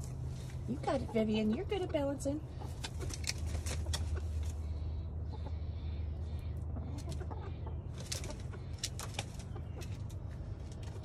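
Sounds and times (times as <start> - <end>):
steady low hum: 0.0 - 11.0
hens clucking softly: 0.4 - 11.0.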